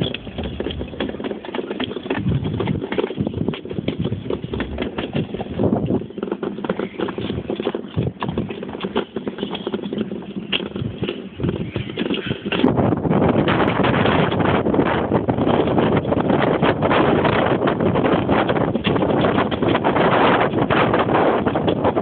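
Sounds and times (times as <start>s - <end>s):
clatter of knocks and rattles: 0.0s - 12.8s, 13.5s - 22.0s
toboggan sliding on snow: 0.0s - 22.0s.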